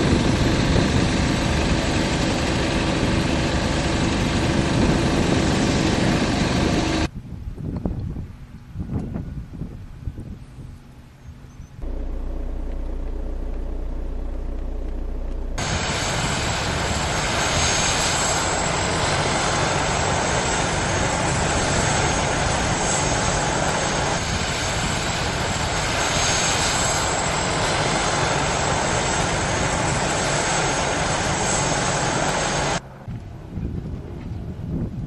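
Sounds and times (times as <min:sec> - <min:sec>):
helicopter flying overhead: 0:00.0 - 0:07.1, 0:11.8 - 0:35.0.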